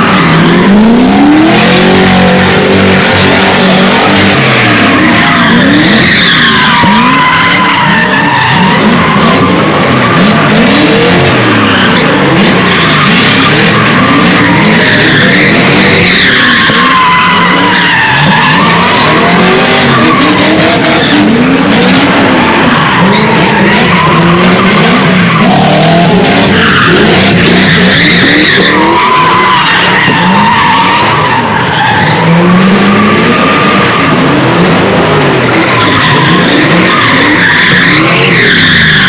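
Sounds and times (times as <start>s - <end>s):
car engines revving: 0.0s - 39.0s
tyres squealing: 0.0s - 39.0s.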